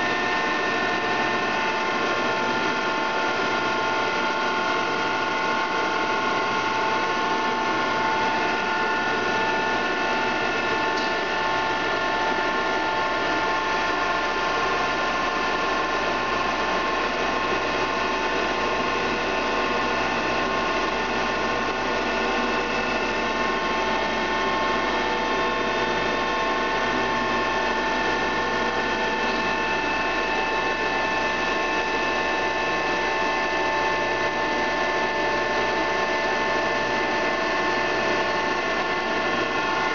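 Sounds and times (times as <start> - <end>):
machine whine: 0.0 - 39.9.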